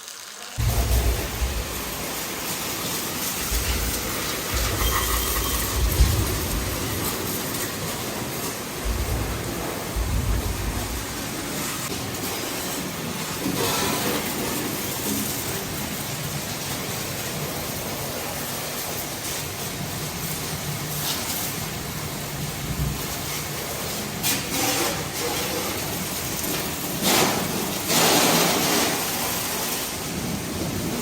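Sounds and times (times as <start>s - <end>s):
water spraying hiss: 0.0s - 31.0s.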